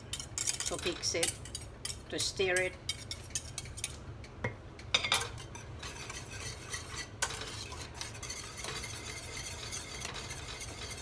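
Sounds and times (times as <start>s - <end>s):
utensils clinking on saucepan: 0.1s - 4.0s, 4.9s - 11.0s.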